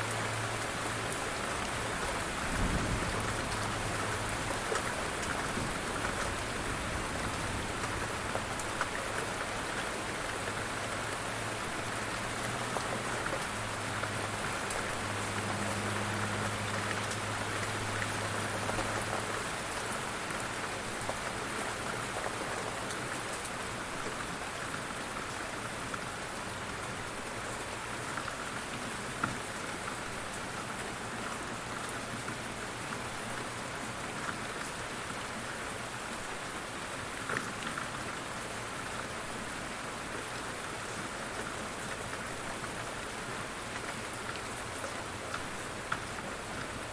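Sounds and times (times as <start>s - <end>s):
rain falling: 0.0s - 46.9s.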